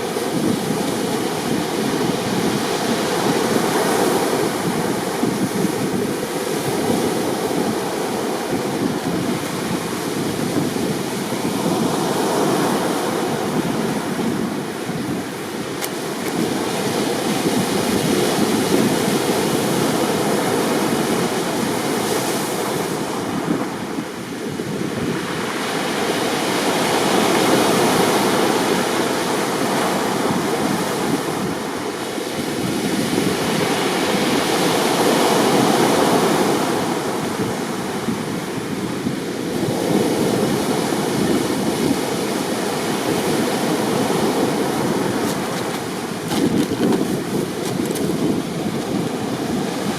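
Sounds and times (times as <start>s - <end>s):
heavy waves breaking: 0.0s - 49.9s
wind on microphone: 0.0s - 49.9s.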